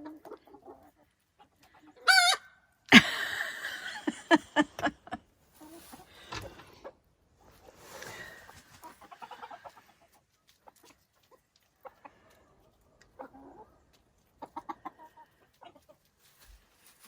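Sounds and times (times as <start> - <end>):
chickens clucking: 0.0 - 16.1.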